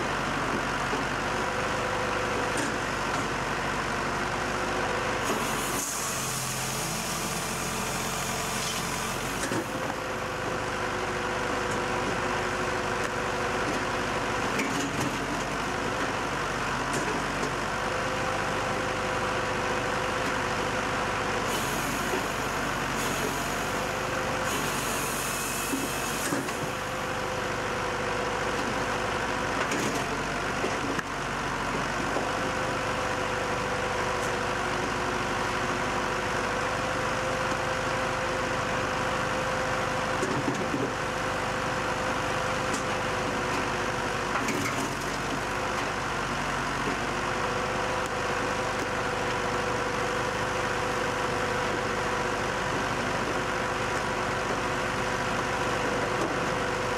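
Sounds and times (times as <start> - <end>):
continuous machine whine: 0.0 - 56.9
engine and machinery drone: 0.0 - 56.9.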